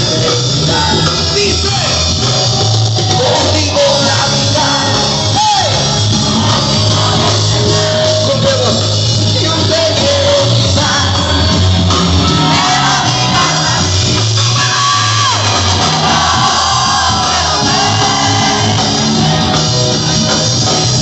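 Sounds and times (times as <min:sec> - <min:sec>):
electric guitar: 0:00.0 - 0:21.0
heavy bass line: 0:00.0 - 0:21.0
rock band playing live: 0:00.0 - 0:21.0.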